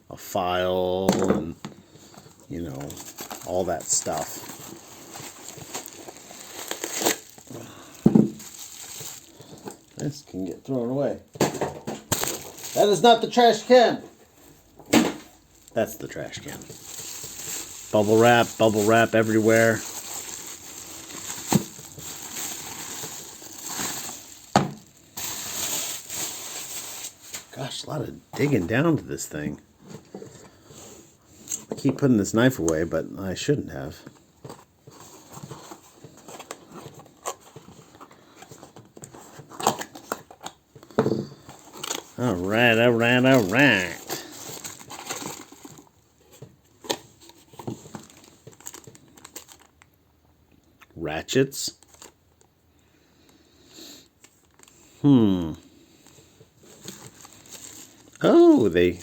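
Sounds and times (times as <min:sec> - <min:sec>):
plastic packaging crinkling: 0:02.1 - 0:28.7, 0:34.6 - 0:50.0, 0:51.7 - 0:52.5, 0:54.2 - 0:59.0.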